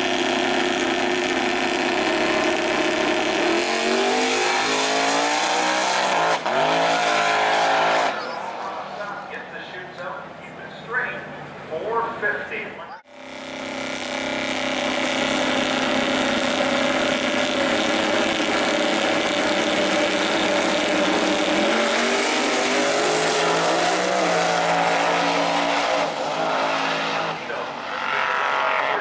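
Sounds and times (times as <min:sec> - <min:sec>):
drag race car engines revving: 0:00.0 - 0:29.0.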